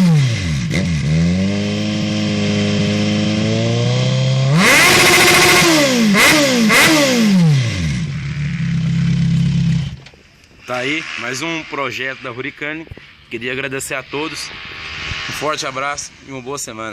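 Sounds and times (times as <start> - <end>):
motorcycle engine revving loudly: 0.0 - 16.9.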